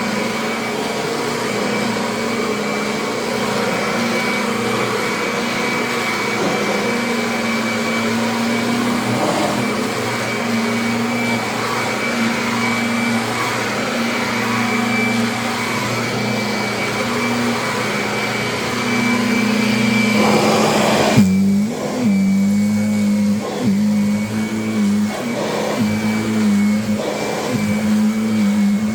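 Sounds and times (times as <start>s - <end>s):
vacuum cleaner running: 0.0s - 28.9s
vacuum high whine: 0.0s - 28.9s.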